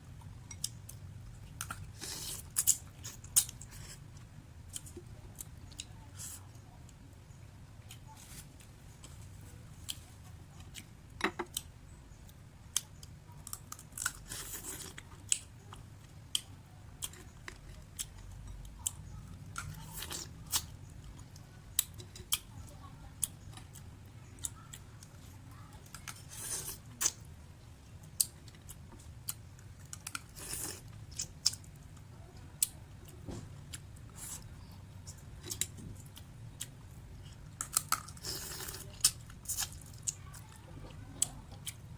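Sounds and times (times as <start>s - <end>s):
crunchy chewing of dried clams: 7.8s - 41.9s.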